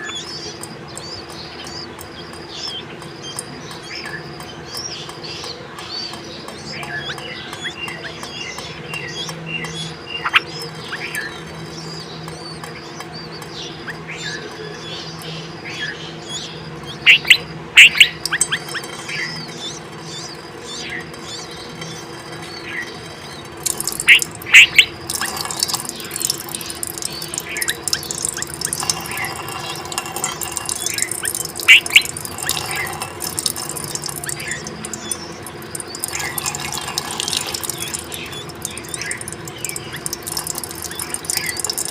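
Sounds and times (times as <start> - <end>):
bird chirps and calls: 0.0 - 41.9
faint steady hum: 0.0 - 41.9.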